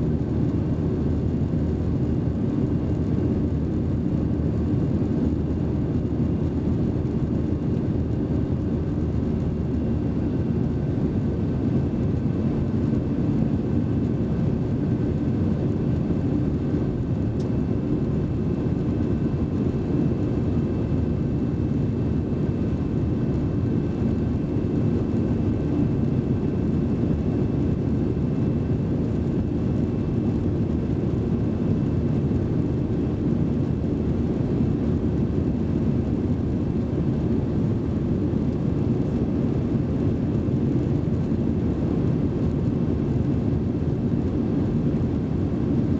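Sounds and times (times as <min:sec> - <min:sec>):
jet engine roar in cabin: 0:00.0 - 0:45.9.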